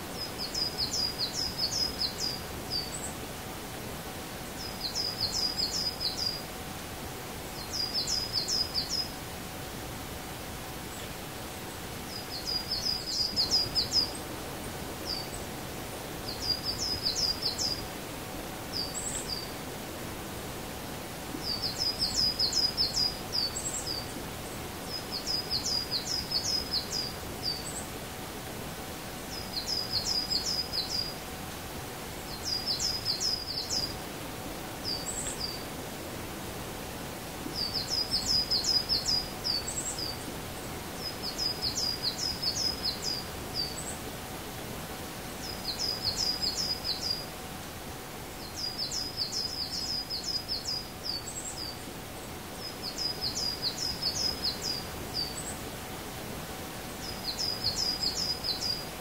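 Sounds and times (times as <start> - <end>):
small songbird singing: 0.0 - 3.3, 4.3 - 6.6, 7.4 - 9.2, 10.9 - 19.8, 20.8 - 28.0, 29.2 - 31.3, 32.1 - 35.7, 37.4 - 44.1, 45.3 - 47.5, 48.4 - 56.0, 56.9 - 59.0
steady outdoor hiss: 0.0 - 59.0.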